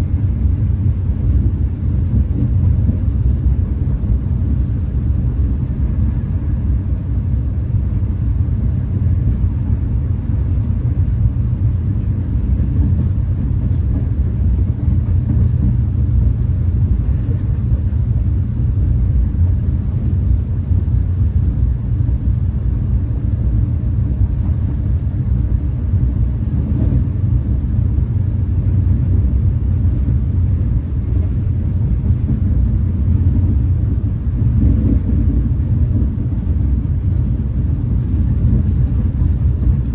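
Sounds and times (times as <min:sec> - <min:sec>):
train rumble inside coach: 0:00.0 - 0:39.9.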